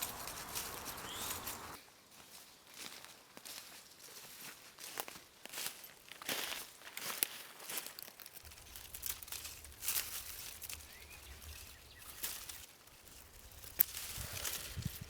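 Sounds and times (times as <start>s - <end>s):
dry leaves crunching: 0.0s - 15.0s.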